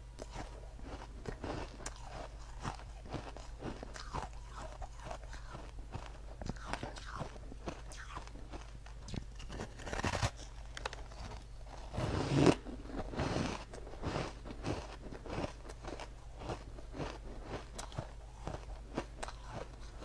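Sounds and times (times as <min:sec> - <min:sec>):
person crunching ice: 0:00.2 - 0:10.5, 0:11.1 - 0:20.0.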